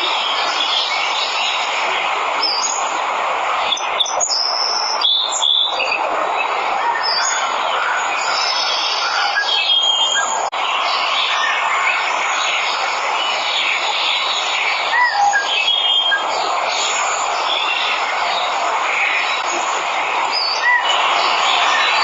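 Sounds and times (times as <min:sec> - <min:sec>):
small birds chirping: 0:00.0 - 0:03.0, 0:03.6 - 0:22.0
waterfall rushing: 0:00.0 - 0:22.0.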